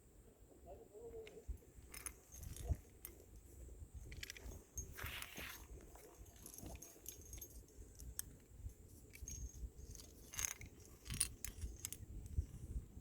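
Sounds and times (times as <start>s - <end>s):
metal carabiners clinking: 1.1s - 12.5s.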